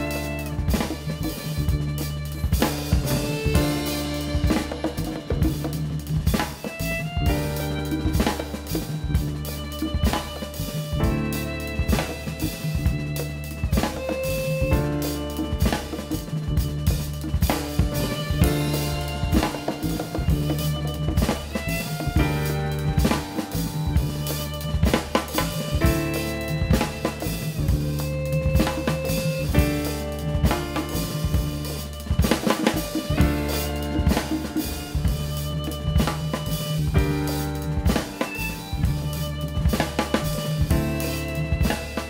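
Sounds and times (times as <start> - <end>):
drum kit beat: 0.0 - 42.0
live band music: 0.0 - 42.0.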